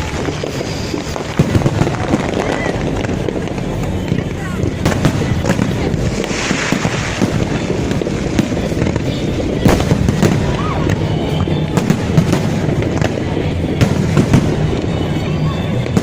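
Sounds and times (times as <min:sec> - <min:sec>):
fireworks crackling and rumbling: 0:00.0 - 0:16.0
sharp firework bangs: 0:00.0 - 0:16.0.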